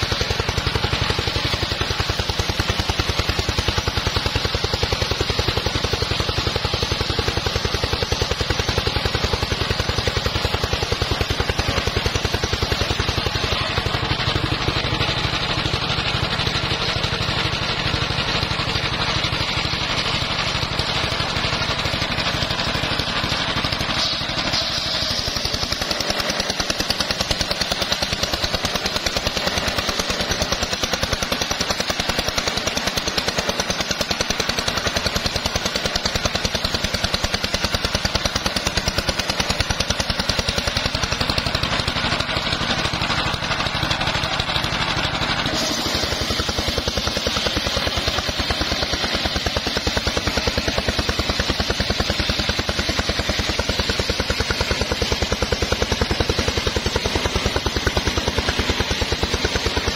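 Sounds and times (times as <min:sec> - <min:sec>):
saw blade cutting wood: 0:00.0 - 0:59.9
sawmill engine pulsing: 0:00.0 - 0:59.9.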